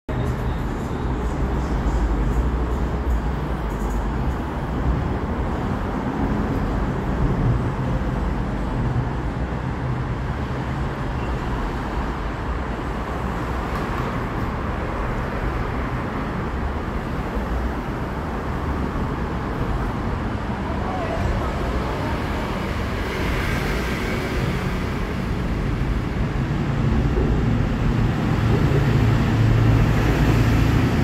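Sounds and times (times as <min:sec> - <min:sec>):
background traffic rumble: 0:00.1 - 0:31.0.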